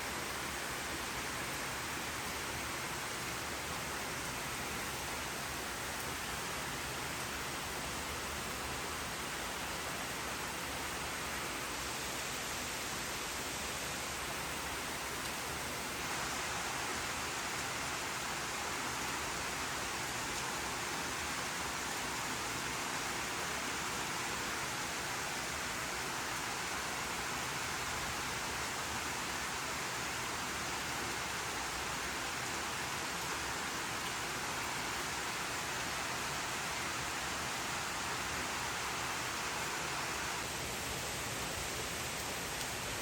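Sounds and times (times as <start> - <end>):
steady rain hissing: 0.0 - 43.0.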